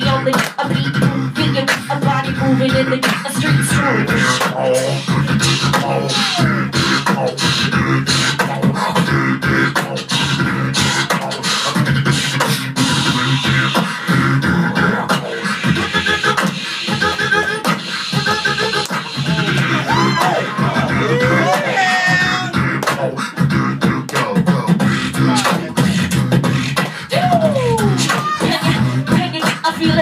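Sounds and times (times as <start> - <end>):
beatboxing into microphones: 0.0 - 30.0
low pitched vocal line: 2.1 - 30.0.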